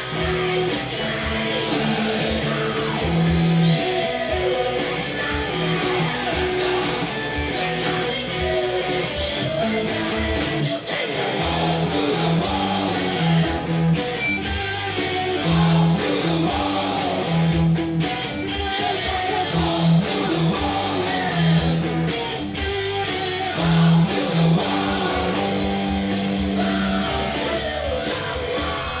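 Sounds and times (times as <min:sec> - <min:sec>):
bass notes: 0:00.0 - 0:29.0
drums: 0:00.0 - 0:29.0.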